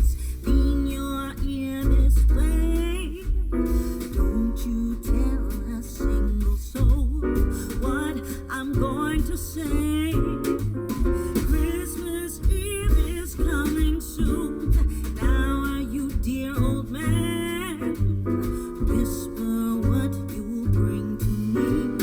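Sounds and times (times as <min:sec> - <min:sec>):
song through car speakers: 0:00.0 - 0:22.0.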